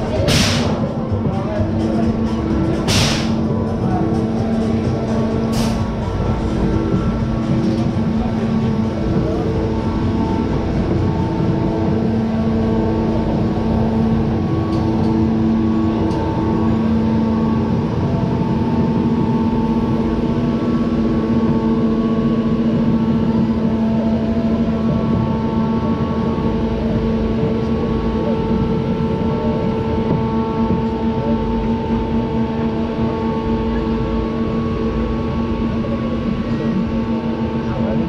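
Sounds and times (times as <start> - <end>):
roller coaster lift mechanism drone: 0.0 - 38.0.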